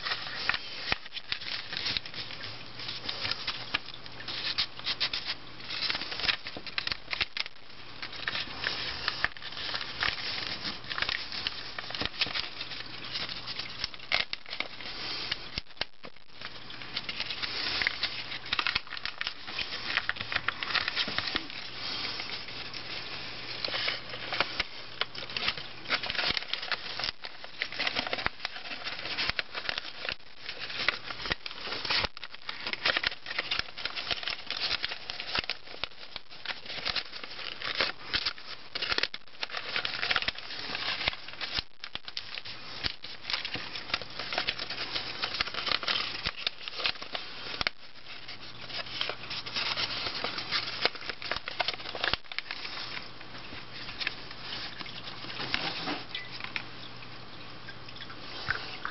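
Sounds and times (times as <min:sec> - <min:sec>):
paper crackling: 0:00.0 - 0:56.7
paper rustling and crinkling: 0:00.0 - 0:56.7.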